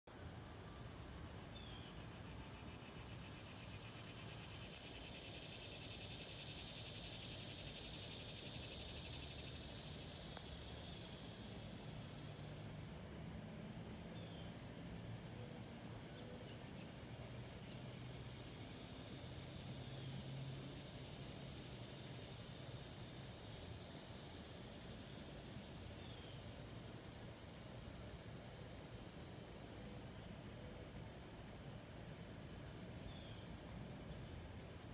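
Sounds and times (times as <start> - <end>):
high insect trill: 0.1 - 34.9.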